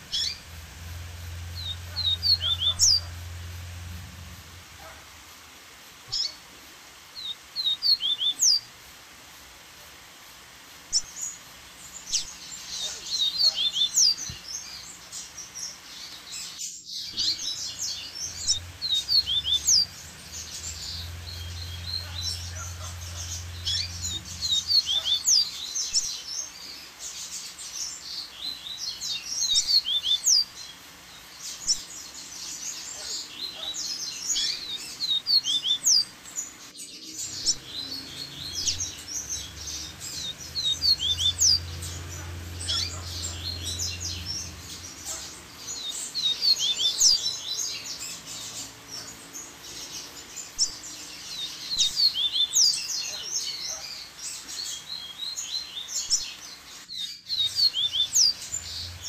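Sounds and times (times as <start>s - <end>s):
bird song chirps and trills: 0.0s - 6.4s, 7.0s - 8.8s, 10.0s - 59.0s.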